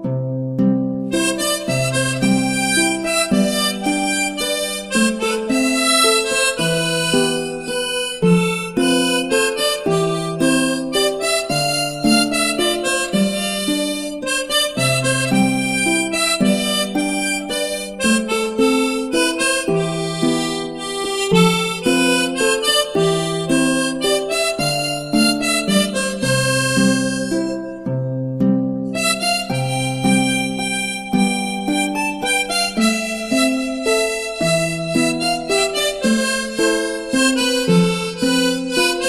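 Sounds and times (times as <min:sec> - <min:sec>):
instrumental background music: 0:00.0 - 0:39.0.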